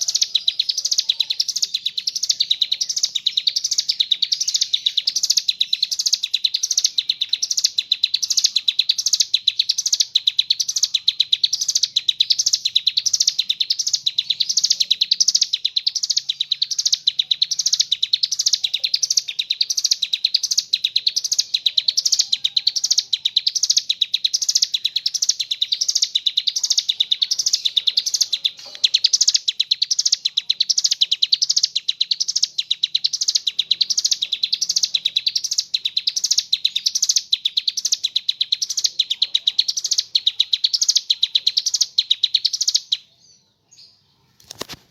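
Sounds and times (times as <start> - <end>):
bird trilling song: 0.0 - 44.9.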